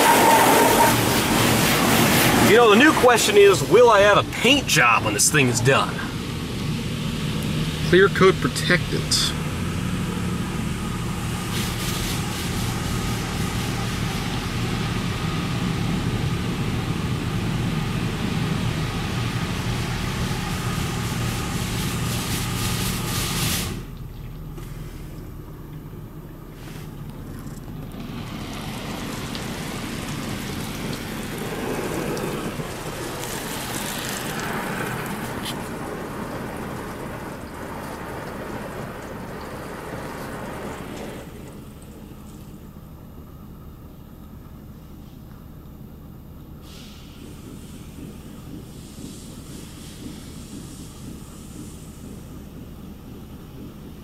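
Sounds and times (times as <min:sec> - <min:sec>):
water spraying against vehicle: 0:00.0 - 0:43.1, 0:46.5 - 0:54.0
low pump hum: 0:00.0 - 0:54.0.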